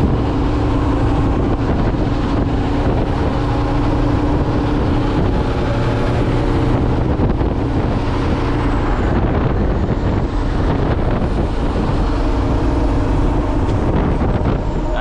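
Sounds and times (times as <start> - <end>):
diesel truck engine running: 0.0 - 15.0
road noise: 0.0 - 15.0.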